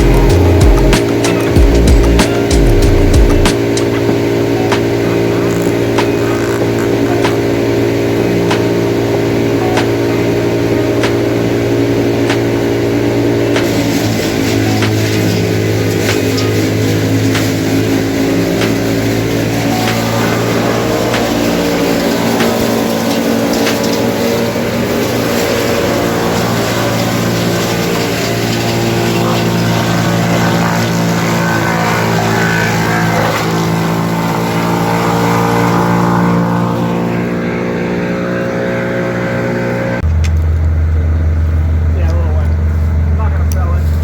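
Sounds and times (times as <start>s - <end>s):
large engine running under load: 0.0s - 44.0s.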